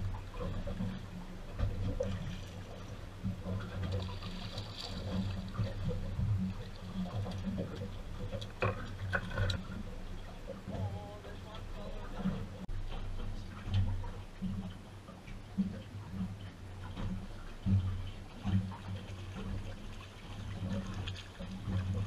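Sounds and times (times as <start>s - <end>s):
low hum: 0.0s - 22.0s
water lapping against hull: 0.0s - 22.0s.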